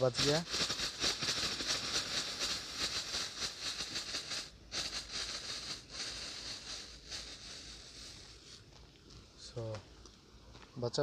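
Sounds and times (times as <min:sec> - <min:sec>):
firecrackers fizzing and crackling: 0:00.0 - 0:09.1.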